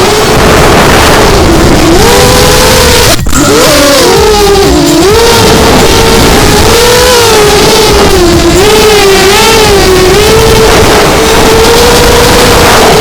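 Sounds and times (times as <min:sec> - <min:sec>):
drone motors whining: 0:00.0 - 0:13.0
wind and propeller rush: 0:00.0 - 0:13.0.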